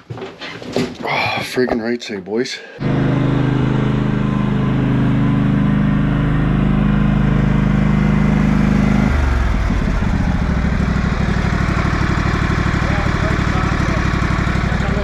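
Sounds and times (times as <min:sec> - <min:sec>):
riding lawn mower engine: 0:02.8 - 0:15.0.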